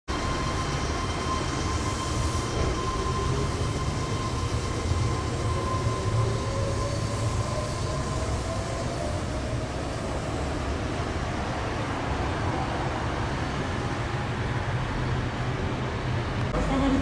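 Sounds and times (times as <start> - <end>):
train rumbling: 0.1 - 17.0.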